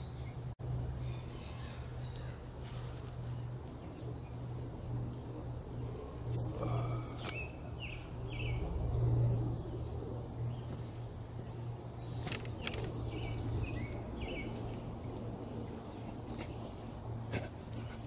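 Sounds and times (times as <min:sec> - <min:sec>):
low outdoor background hum: 0:00.0 - 0:18.0.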